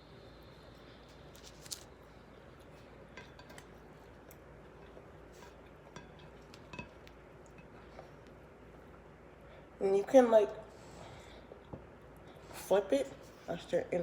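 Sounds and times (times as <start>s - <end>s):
low steady background hum: 0.0s - 14.0s.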